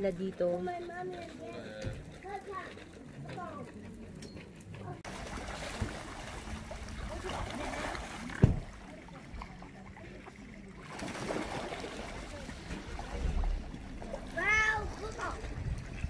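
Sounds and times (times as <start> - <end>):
water splashing and lapping: 0.0 - 16.0.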